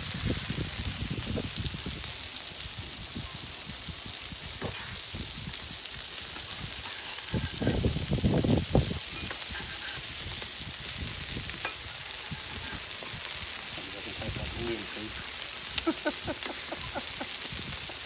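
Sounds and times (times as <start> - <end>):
meat sizzling on hotplate: 0.0 - 18.0.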